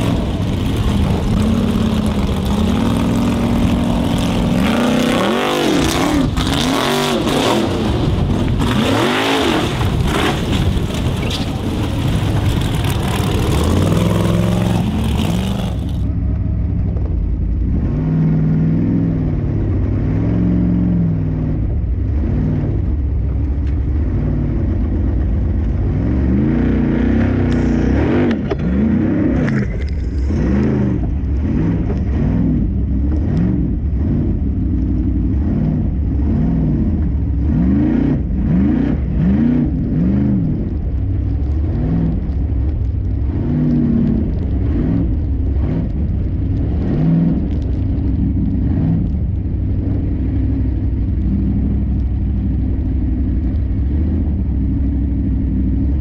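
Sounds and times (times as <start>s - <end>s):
offroad car engine revving: 0.0s - 56.0s.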